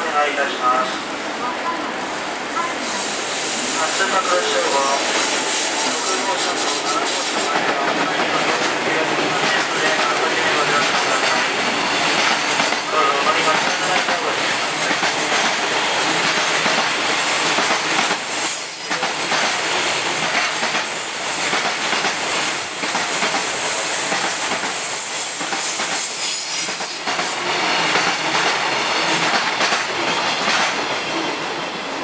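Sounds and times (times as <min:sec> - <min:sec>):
train wagons rolling past: 0:00.3 - 0:32.0.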